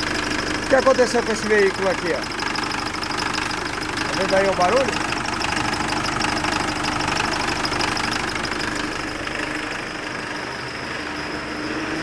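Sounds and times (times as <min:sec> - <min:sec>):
engine idling with metallic rattle: 0:00.0 - 0:12.0.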